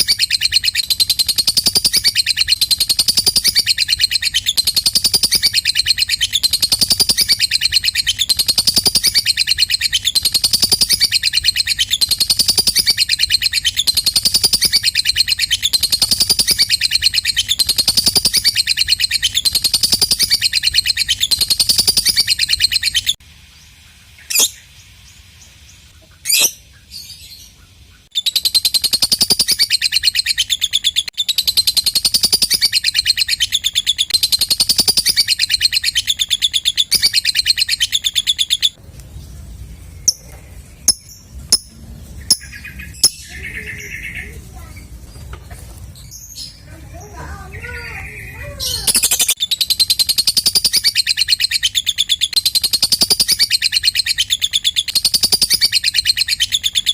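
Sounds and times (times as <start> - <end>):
lovebird chattering trill: 0.0 - 23.2, 24.2 - 24.7, 25.9 - 27.4, 28.0 - 38.8, 40.0 - 45.0, 46.2 - 56.9.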